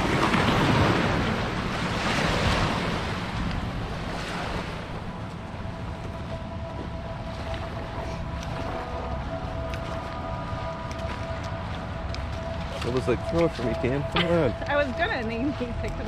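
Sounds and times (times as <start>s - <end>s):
river waves washing on shore: 0.0s - 16.0s.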